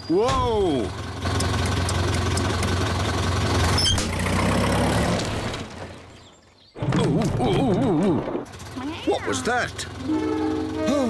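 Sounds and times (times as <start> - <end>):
truck engine humming: 0.0 - 6.2, 8.3 - 11.0.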